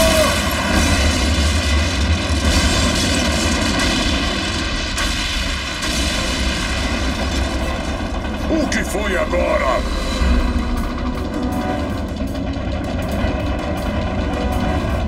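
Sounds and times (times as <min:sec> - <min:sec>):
low rumbling roar of explosions: 0:00.0 - 0:15.0.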